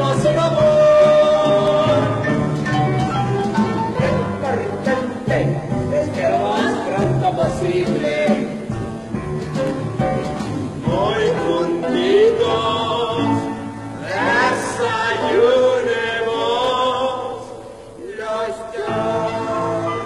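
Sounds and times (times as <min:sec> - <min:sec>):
musical theatre singing with accompaniment: 0:00.0 - 0:20.0.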